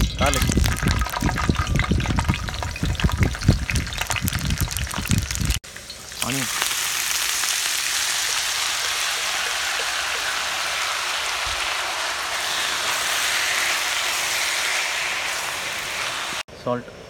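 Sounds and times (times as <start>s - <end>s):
onions sizzling in hot oil: 0.0s - 16.5s.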